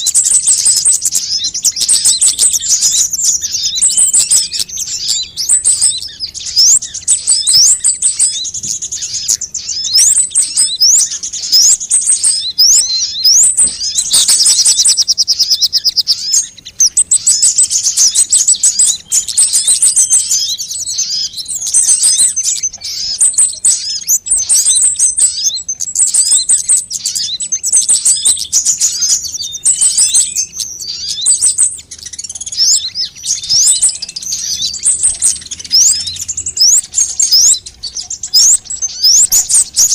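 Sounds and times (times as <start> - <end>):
sunbirds chirping and trilling: 0.0 - 39.9.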